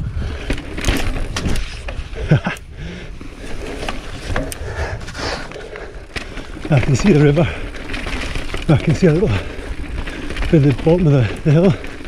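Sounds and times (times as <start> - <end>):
bike rattling and knocking: 0.1 - 12.0
tyres rumbling on rock: 0.3 - 12.0.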